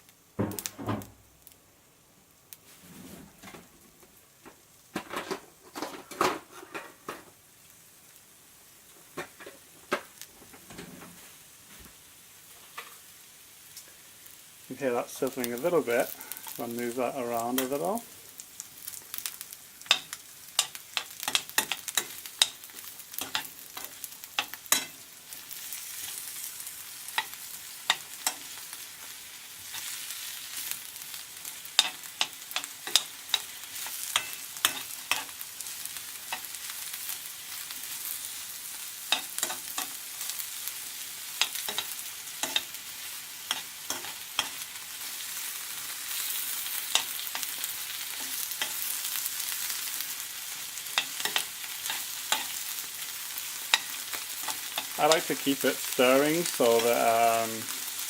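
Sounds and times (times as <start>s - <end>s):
vegetables sizzling in hot oil: 0.0s - 58.0s.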